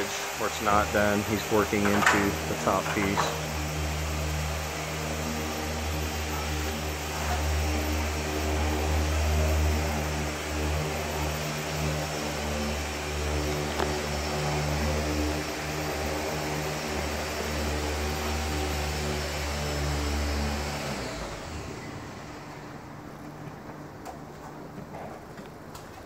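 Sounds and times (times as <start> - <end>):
polisher winding down: 0.0 - 23.6
orbital polisher running: 0.0 - 23.7.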